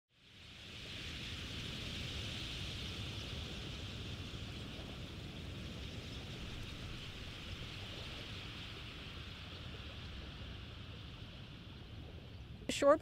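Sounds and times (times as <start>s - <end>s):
wind: 0.1s - 13.0s
small waves washing on beach: 0.2s - 13.0s.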